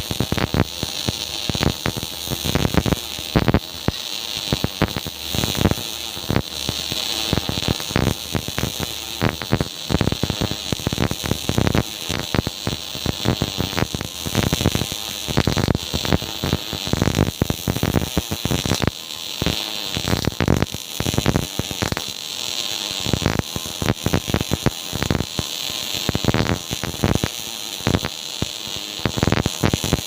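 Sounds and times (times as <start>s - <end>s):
welding arc crackling: 0.0s - 30.0s.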